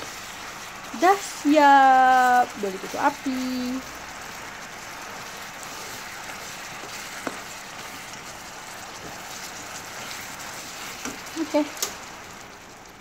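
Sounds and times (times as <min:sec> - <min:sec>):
sauce sizzling and bubbling: 0:00.0 - 0:13.0.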